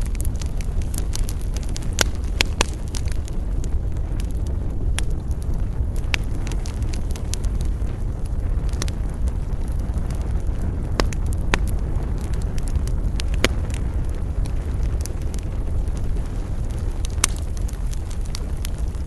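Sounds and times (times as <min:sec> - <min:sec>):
fire popping and snapping: 0:00.0 - 0:19.0
wood fire crackling: 0:00.0 - 0:19.0.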